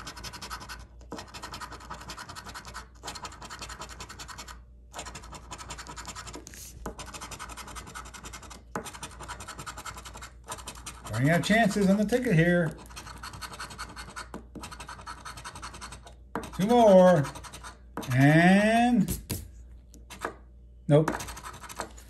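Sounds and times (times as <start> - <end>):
coin scraping lottery ticket: 0.0 - 18.3, 21.1 - 22.0.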